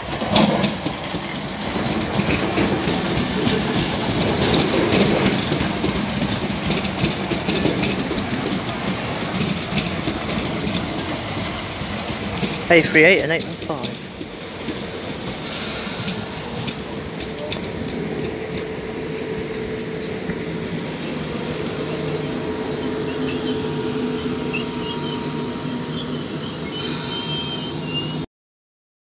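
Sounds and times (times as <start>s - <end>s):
train wheels rumbling on rail: 0.0s - 28.2s.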